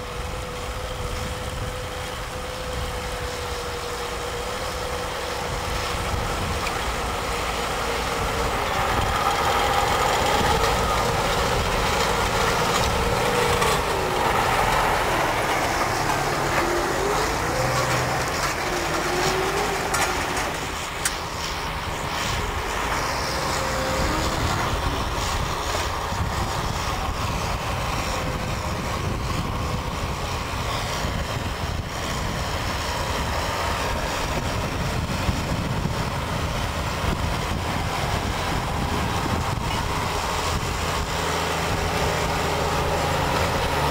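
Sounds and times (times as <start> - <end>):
tractor engine working under load: 0.0 - 43.9.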